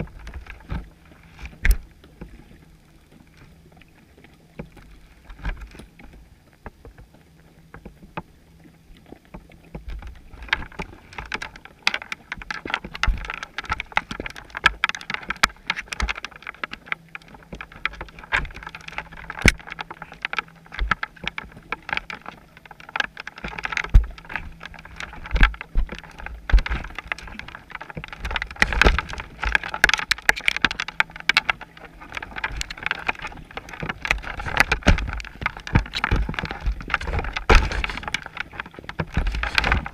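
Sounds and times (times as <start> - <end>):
underwater clicking and knocking: 0.0 - 3.6, 9.1 - 39.9.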